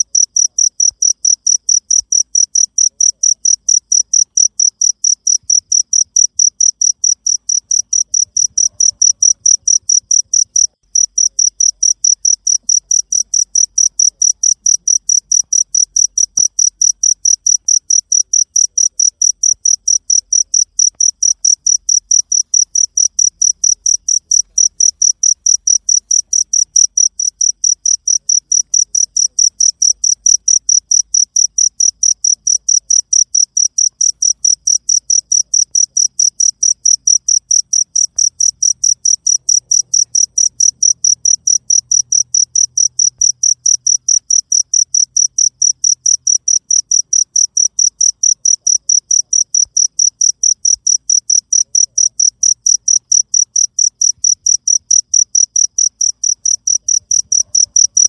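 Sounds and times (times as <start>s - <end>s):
cricket chirping: 0.0s - 58.0s.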